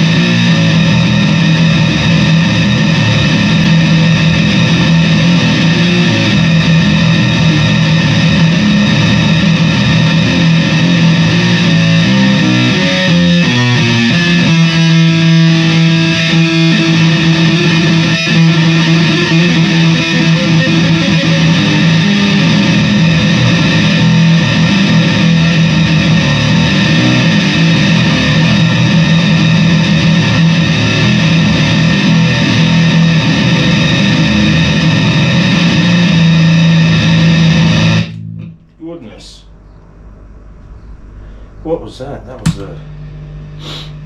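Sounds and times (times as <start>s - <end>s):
heavily distorted bass guitar: 0.0s - 38.8s.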